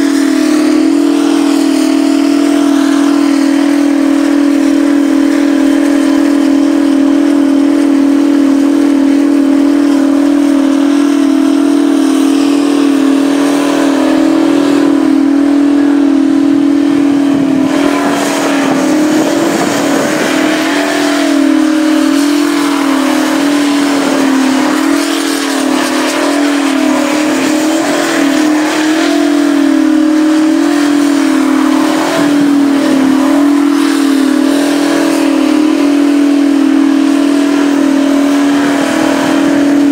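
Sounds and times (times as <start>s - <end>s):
truck engine at high revs: 0.0s - 39.9s.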